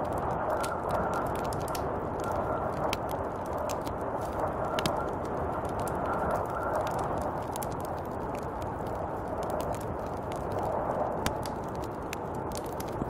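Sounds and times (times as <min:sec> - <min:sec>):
snowstorm wind blowing: 0:00.0 - 0:13.0.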